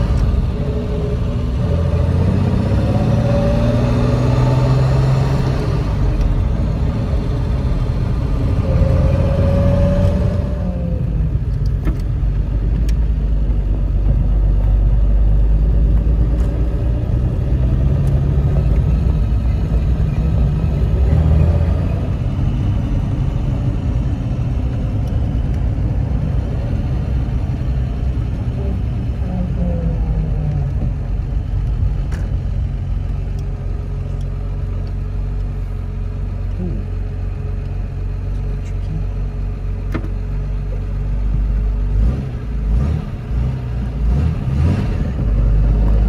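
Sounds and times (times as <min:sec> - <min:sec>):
car engine from inside cabin: 0:00.0 - 0:46.0
road noise: 0:00.0 - 0:46.0.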